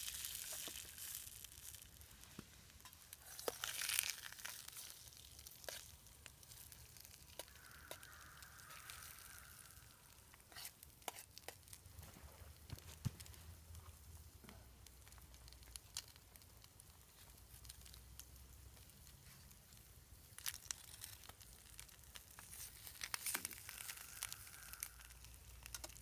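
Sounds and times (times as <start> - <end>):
food sizzling in a pan: 0.0 - 11.8, 15.4 - 26.0
fire popping and crackling: 0.0 - 26.0.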